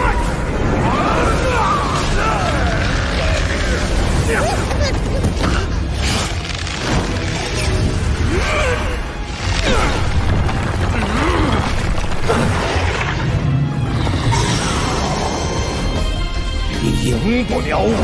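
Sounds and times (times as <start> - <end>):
dramatic music: 0.0 - 18.0.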